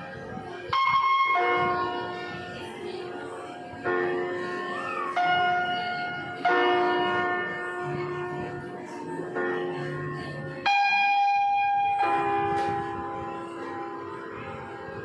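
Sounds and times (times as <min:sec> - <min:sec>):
slow bell-like music: 0:00.8 - 0:15.0.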